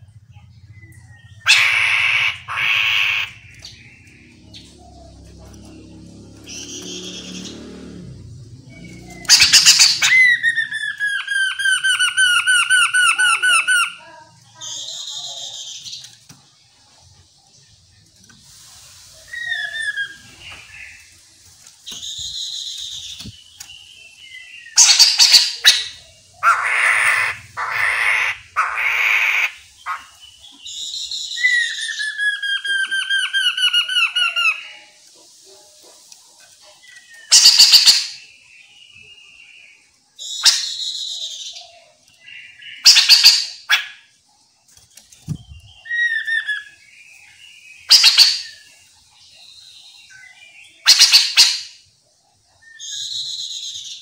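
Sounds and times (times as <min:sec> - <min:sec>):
bird singing varied loud song: 0:00.0 - 0:54.0
harsh bird calls: 0:00.0 - 0:54.0.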